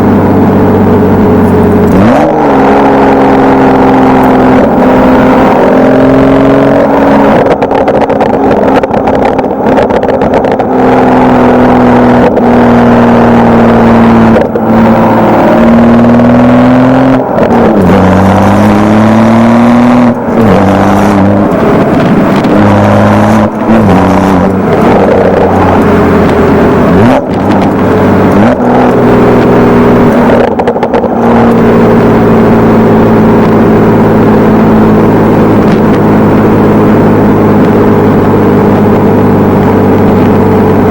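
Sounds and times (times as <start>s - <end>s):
car engine revving loud: 0.0s - 40.9s.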